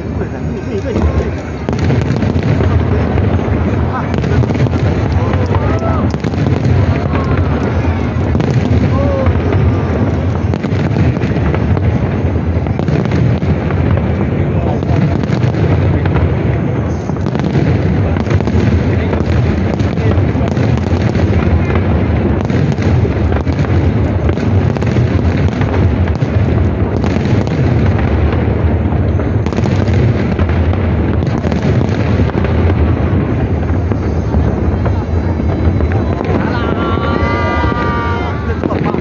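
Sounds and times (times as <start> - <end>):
fireworks bangs: 0.0 - 39.0.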